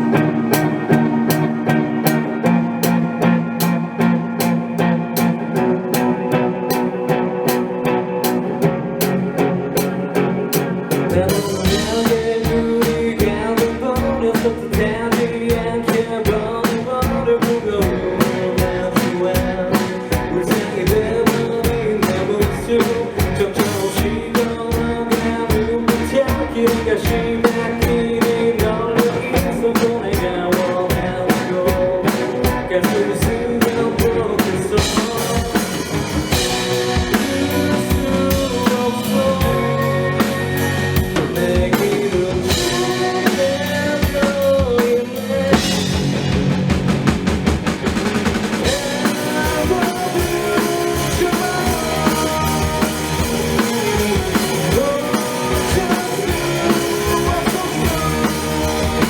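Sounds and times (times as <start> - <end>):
drum kit beat: 0.0 - 59.0
live rock band playing: 0.0 - 59.0.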